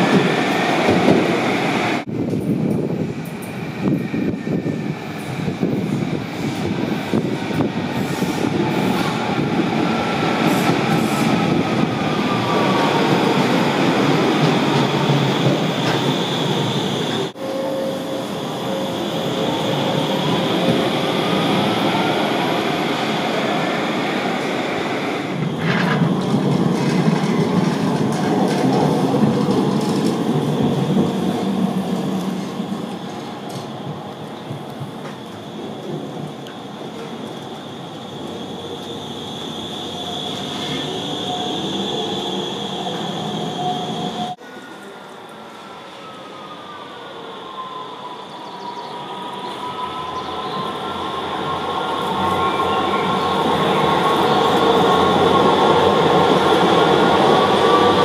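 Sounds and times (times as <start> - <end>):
tram wheels rumbling on rails: 0.0 - 45.3, 49.5 - 58.0.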